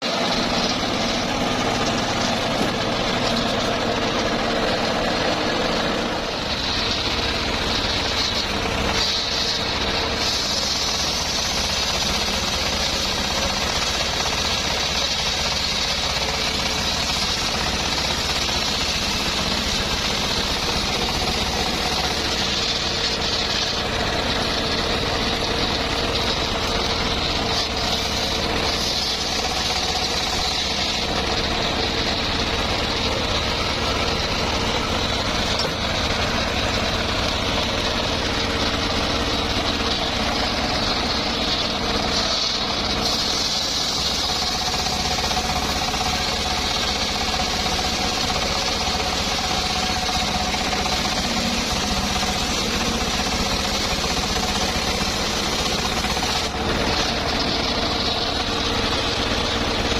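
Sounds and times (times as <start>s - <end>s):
circular saw cutting wood: 0.0s - 59.9s
engine knocking: 0.0s - 59.9s.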